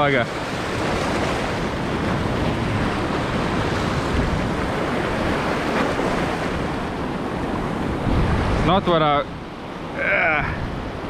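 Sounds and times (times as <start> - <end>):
surf breaking against rocks: 0.0 - 10.4
wind on microphone: 0.0 - 11.0.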